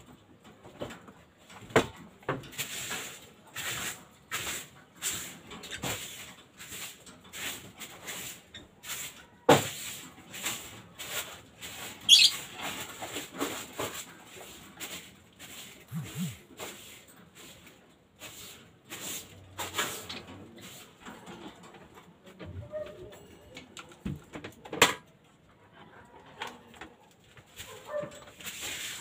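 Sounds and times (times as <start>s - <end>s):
birds tapping and scraping in cage: 0.0s - 29.0s.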